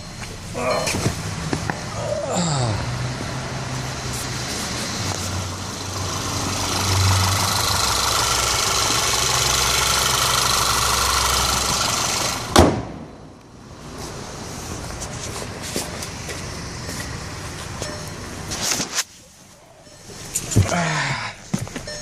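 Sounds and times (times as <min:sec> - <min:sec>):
car engine running: 0:00.0 - 0:20.7.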